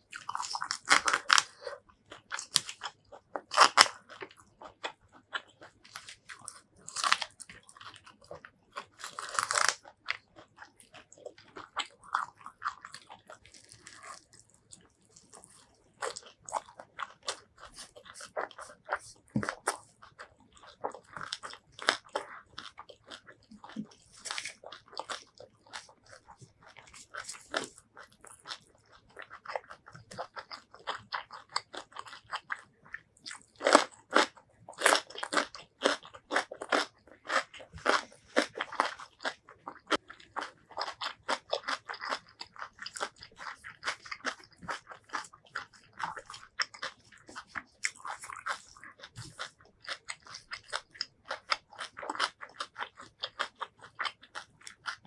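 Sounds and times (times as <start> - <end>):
crunching and chewing greens: 0.0 - 55.0.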